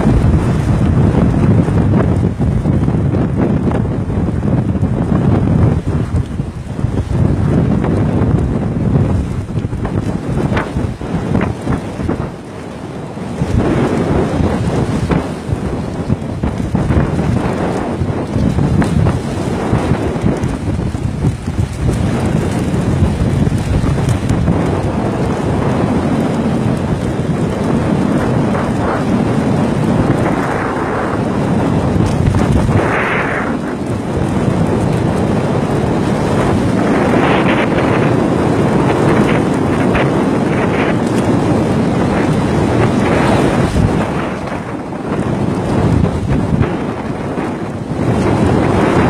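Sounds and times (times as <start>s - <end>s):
wind rumbling on microphone: 0.0s - 49.0s
waves splashing against raft: 9.1s - 49.0s.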